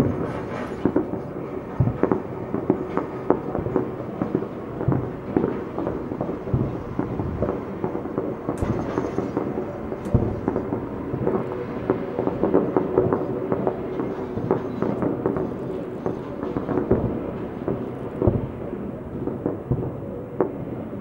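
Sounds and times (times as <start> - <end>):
sharp firework cracks: 0.0 - 18.6
fireworks booming and crackling: 0.0 - 21.0.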